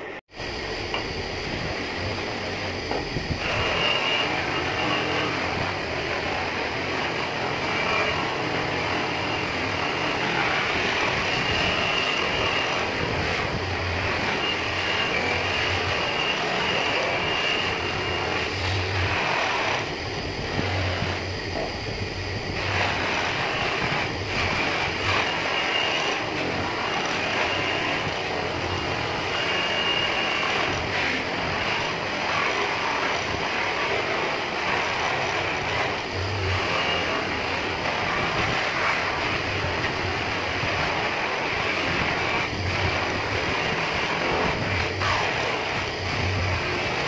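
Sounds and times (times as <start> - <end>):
polishing motor running: 0.3 - 47.0
buffing wheel rubbing metal: 0.9 - 47.0.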